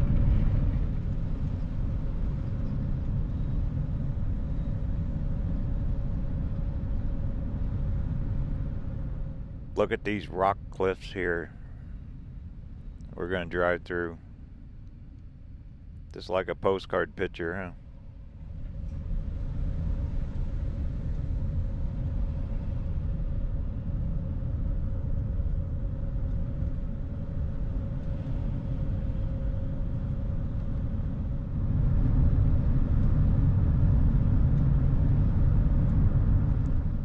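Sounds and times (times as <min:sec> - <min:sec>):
vehicle engine and tyre rumble: 0:00.0 - 0:16.1, 0:17.4 - 0:37.0
faint steady whine: 0:00.0 - 0:37.0.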